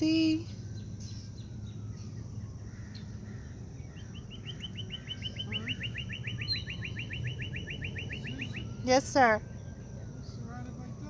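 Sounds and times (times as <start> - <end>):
songbird trilling: 0.1 - 9.8.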